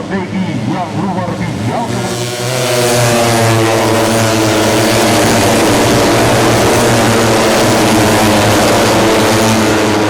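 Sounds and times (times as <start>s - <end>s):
motorcycle engines running loud: 0.6s - 10.0s.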